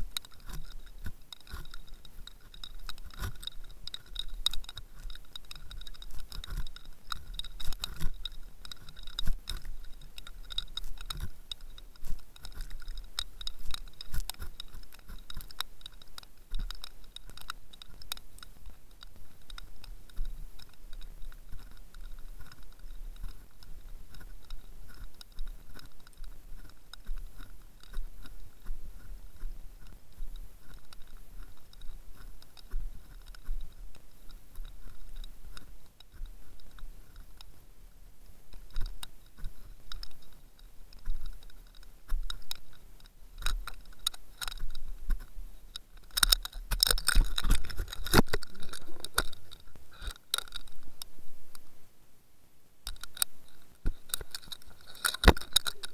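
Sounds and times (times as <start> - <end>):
underwater crackling and clicking: 0.0 - 51.9, 52.6 - 55.9
faint steady hum: 0.0 - 55.9.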